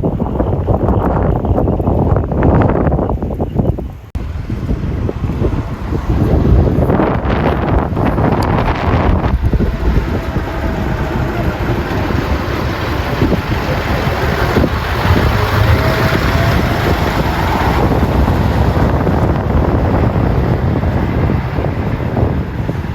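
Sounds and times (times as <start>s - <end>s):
heavy truck engines rumbling: 0.0s - 22.9s
wind buffeting microphone: 0.0s - 22.9s.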